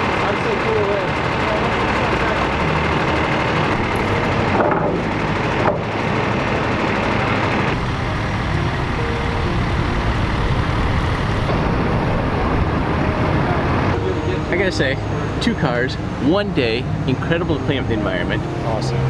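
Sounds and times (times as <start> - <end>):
dense noise: 0.0 - 19.0
truck engine running: 0.0 - 19.0.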